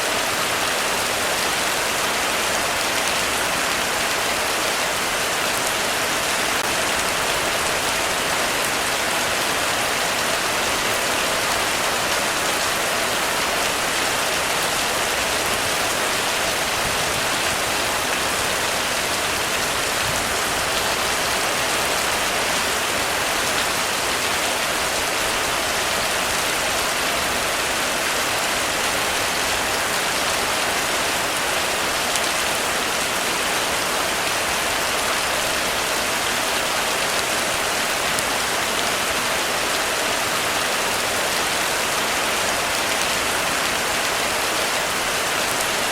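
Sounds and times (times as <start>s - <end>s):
heavy rain on a roof: 0.0s - 45.9s.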